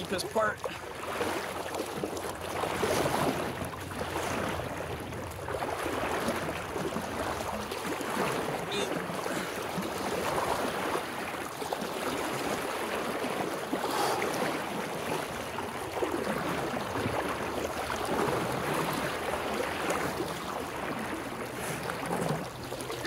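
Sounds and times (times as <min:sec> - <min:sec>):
floodwater rushing and splashing: 0:00.0 - 0:23.0.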